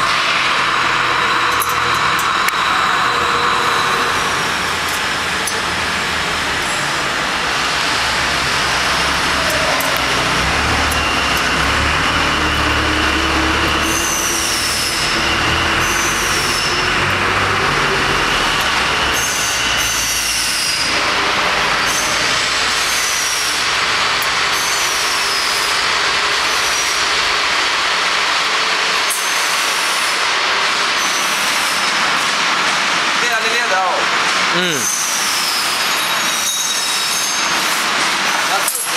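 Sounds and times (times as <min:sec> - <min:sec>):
high falling machine squeal: 0:00.0 - 0:05.9, 0:06.6 - 0:27.5, 0:28.8 - 0:31.9, 0:34.6 - 0:38.9.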